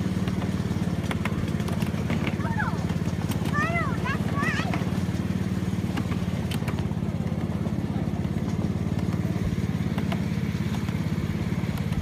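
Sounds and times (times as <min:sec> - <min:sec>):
small locomotive engine putter: 0:00.0 - 0:12.0.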